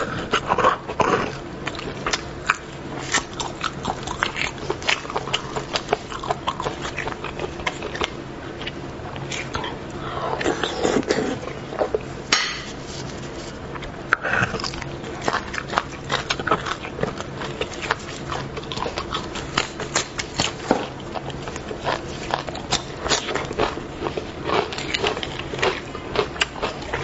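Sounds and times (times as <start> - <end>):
person chewing and lip smacking: 0.0 - 27.0.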